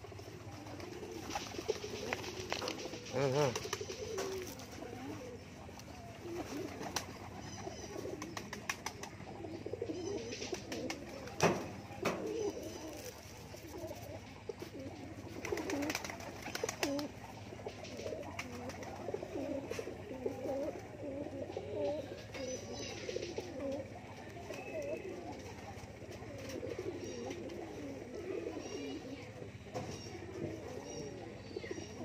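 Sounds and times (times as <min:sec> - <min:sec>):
pigeons pecking at grain: 0:00.0 - 0:31.3
pigeons cooing: 0:00.0 - 0:32.0.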